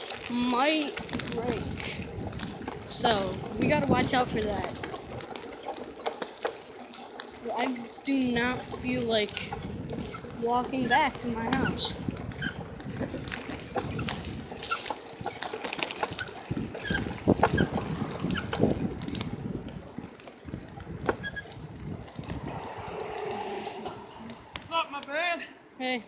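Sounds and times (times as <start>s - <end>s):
bicycle rattling and clicking: 0.0s - 25.8s.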